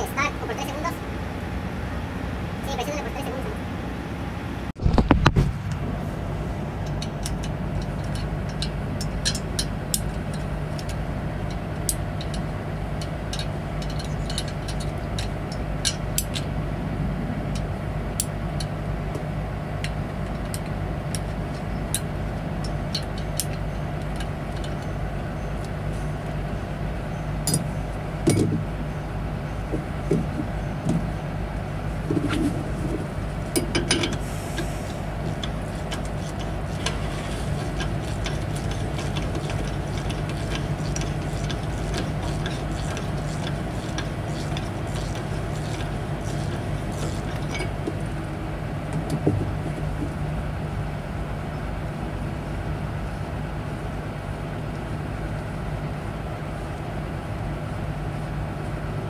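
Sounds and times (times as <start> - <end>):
low engine hum: 0.0 - 59.0.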